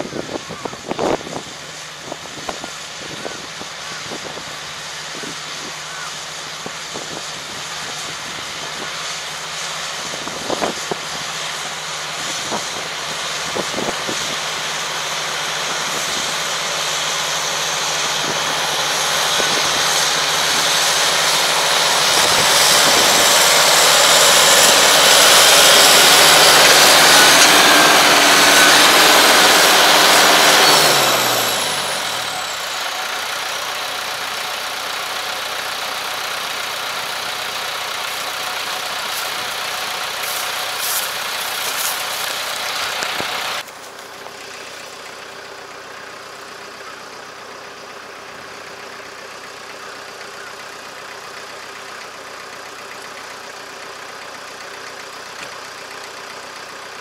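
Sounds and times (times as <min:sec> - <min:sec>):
hiss from tracks and tiller: 0:00.0 - 0:57.0
tractor engine running: 0:00.0 - 0:57.0.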